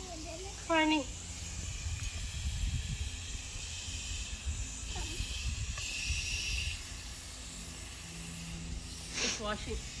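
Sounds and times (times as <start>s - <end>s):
hose nozzle spray hissing: 0.0s - 10.0s.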